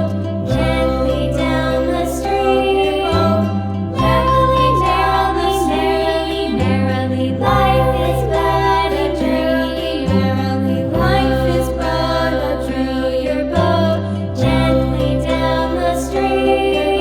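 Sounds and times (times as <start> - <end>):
person singing: 0.0 - 17.0
sustained bass notes: 0.0 - 17.0.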